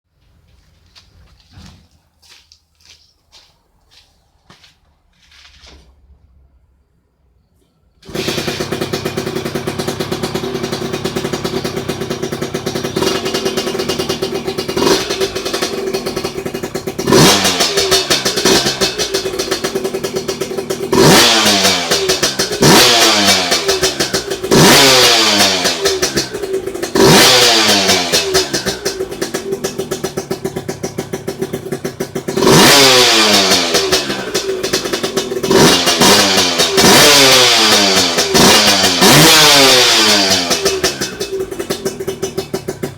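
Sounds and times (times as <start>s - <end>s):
motorcycle engine idling and revving: 8.0s - 42.9s.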